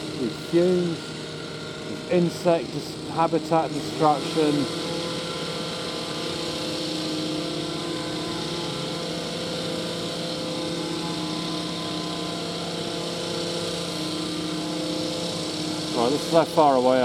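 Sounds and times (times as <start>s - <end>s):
chainsaw engines at high revs: 0.0s - 17.0s.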